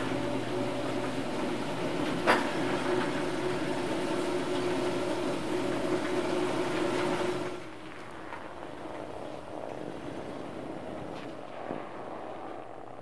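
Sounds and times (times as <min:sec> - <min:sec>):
garage door motor hum: 0:00.0 - 0:13.0
outdoor background noise: 0:00.0 - 0:13.0.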